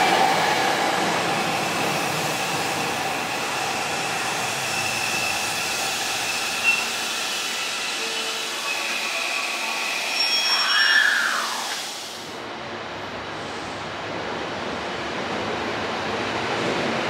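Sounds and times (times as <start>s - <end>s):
low rushing train noise: 0.0s - 17.0s.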